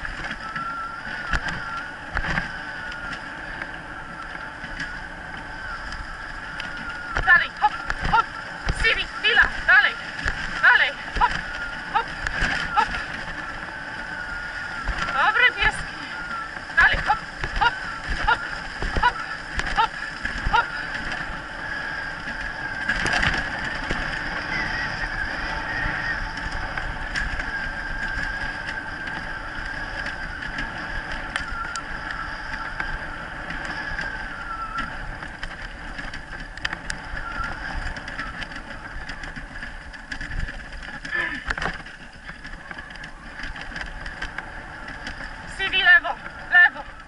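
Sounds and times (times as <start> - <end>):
faint wavering whine: 0.0 - 47.0
wheels rolling on dirt trail: 0.0 - 47.0.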